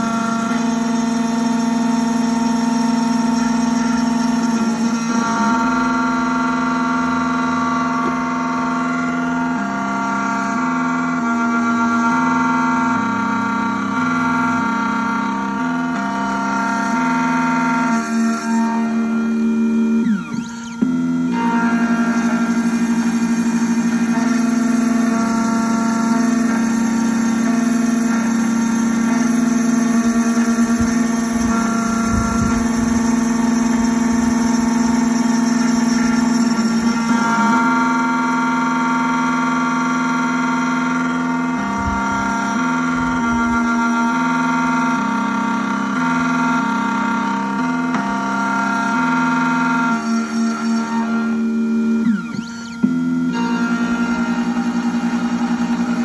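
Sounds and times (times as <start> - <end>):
key cutting machine whine: 0.0 - 56.0.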